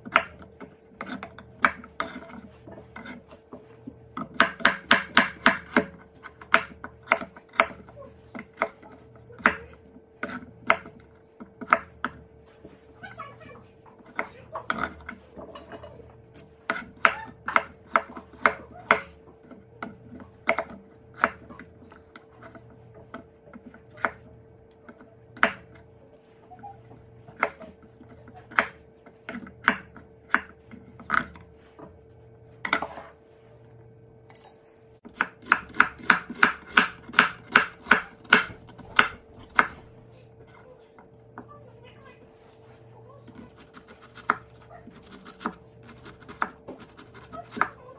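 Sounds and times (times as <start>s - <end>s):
knife chopping on wooden board: 0.0s - 12.9s, 14.0s - 25.9s, 27.2s - 33.1s, 35.0s - 40.0s, 43.2s - 47.9s.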